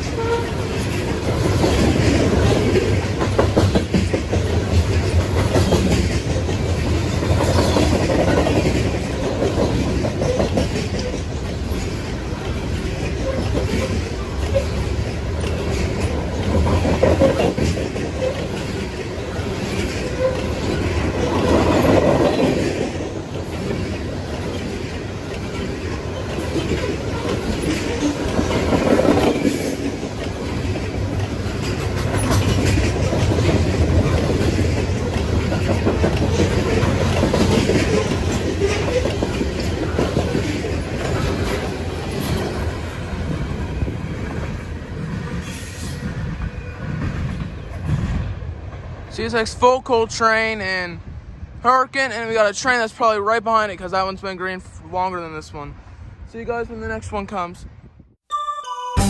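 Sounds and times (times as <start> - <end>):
train wheels clattering over rail joints: 0.0 - 48.3.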